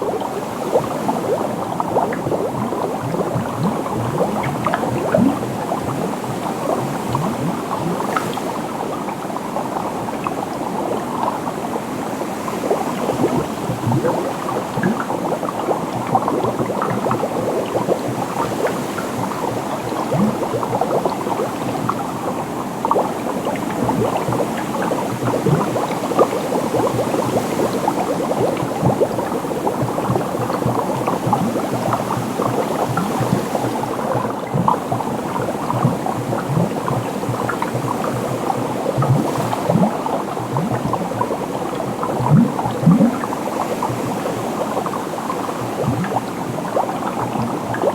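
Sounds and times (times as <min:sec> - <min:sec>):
liquid bubbling and popping: 0:00.0 - 0:47.9.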